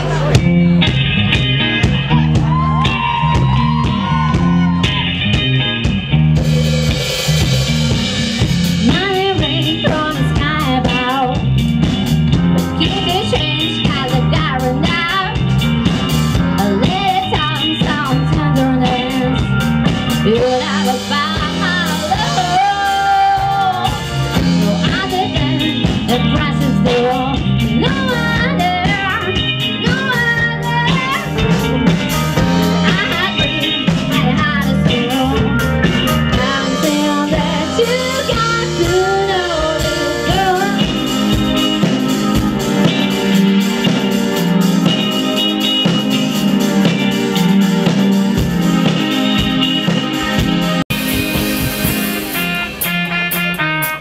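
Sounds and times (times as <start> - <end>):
bending guitar melody: 0.0 - 54.0
live rock band playing: 0.0 - 54.0.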